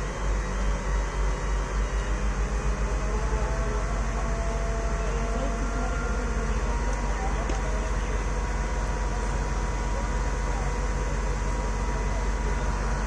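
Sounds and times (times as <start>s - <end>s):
heavy diesel engine under load: 0.0s - 13.0s.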